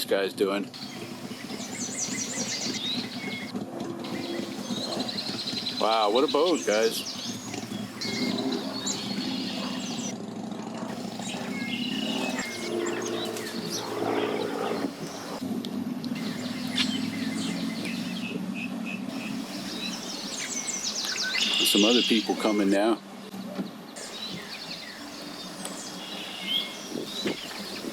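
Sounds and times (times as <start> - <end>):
birds chirping: 0.0 - 15.4, 16.0 - 27.9
boat engine humming: 0.6 - 27.9.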